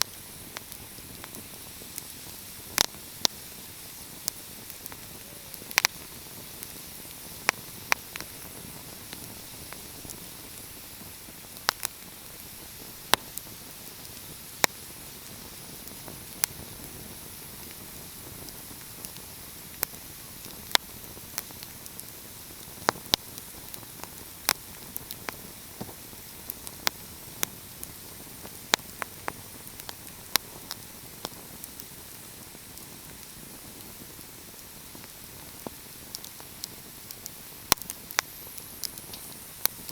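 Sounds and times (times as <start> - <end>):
fire crackling: 0.0 - 39.9
soft hiss: 0.0 - 39.9.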